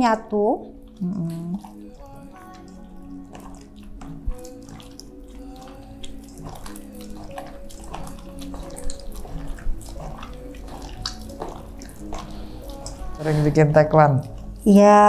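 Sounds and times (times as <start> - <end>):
hands squishing raw fish: 0.8 - 14.7
wet squelching: 0.8 - 14.7.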